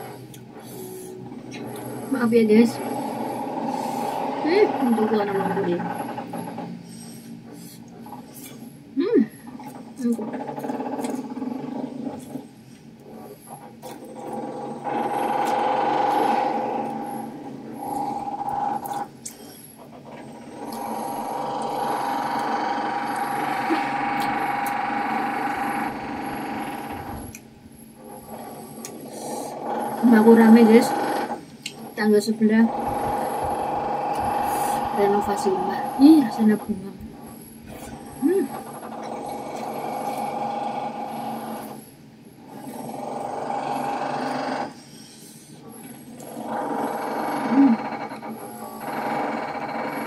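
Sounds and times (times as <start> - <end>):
power tool buzzing: 0.0 - 7.2, 13.2 - 19.1, 20.0 - 27.4, 28.0 - 37.0, 38.0 - 44.8, 45.9 - 50.0.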